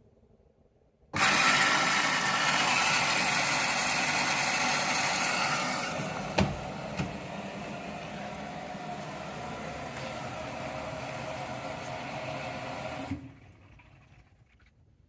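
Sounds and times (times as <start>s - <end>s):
washing machine rushing: 1.2s - 14.4s.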